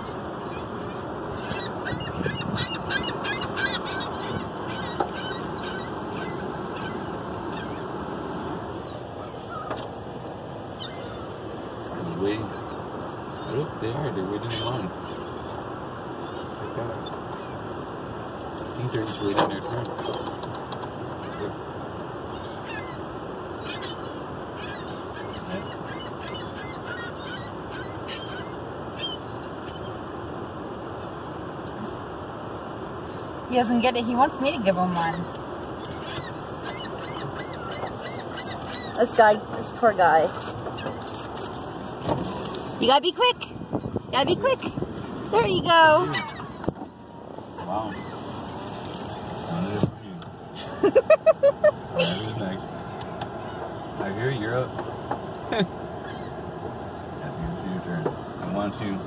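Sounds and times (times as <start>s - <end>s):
gulls calling: 0.0s - 59.0s.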